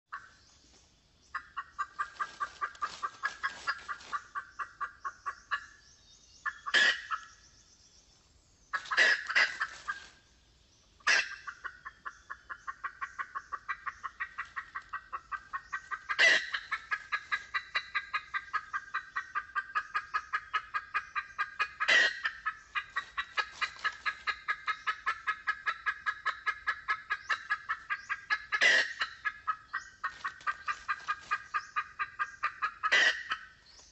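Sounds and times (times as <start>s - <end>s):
hen clucking rapidly: 1.3s - 5.6s, 8.7s - 10.1s, 11.0s - 33.6s.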